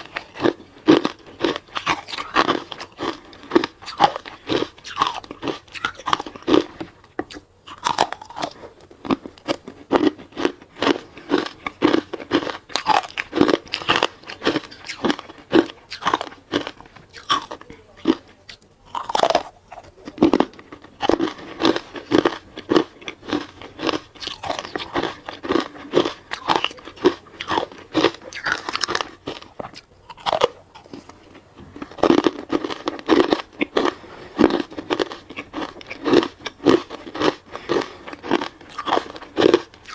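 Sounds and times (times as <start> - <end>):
chewing hard ice crunches: 0.0 - 39.9.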